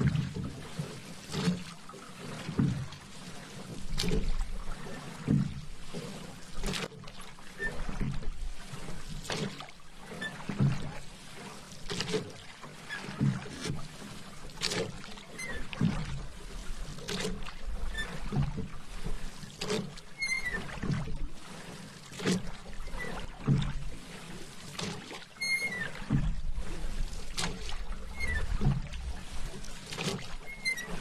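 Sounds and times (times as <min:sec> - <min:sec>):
paddle splashing in water: 0:00.0 - 0:31.0.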